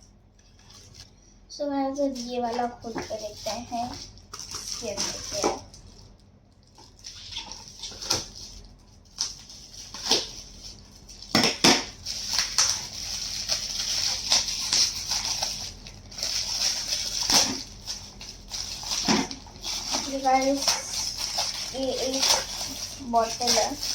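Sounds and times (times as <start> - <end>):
wrapping paper crinkling and tearing: 0.4 - 1.1, 2.0 - 23.9.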